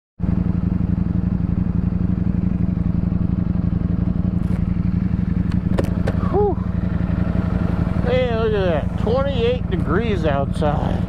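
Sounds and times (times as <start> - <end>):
motorcycle engine running: 0.2 - 11.0.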